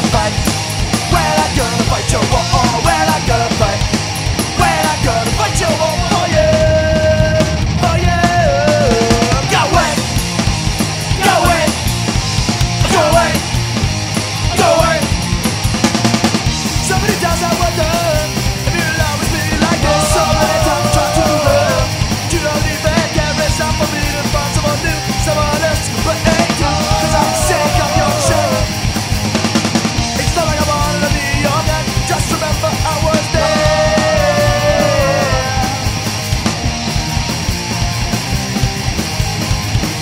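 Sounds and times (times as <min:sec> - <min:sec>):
pop-punk band playing: 0:00.0 - 0:40.0.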